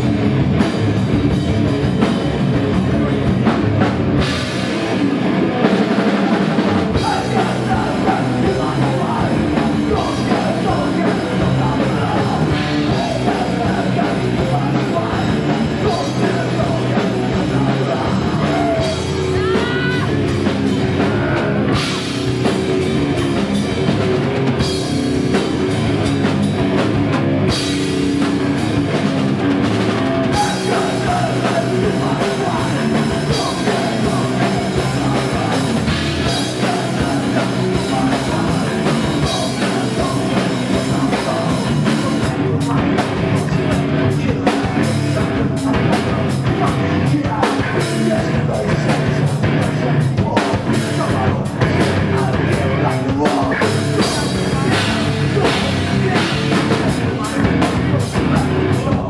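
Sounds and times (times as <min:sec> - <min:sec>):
drum kit: 0:00.0 - 0:59.0
electric guitar: 0:00.0 - 0:59.0
shouted lead vocal: 0:01.5 - 0:59.0.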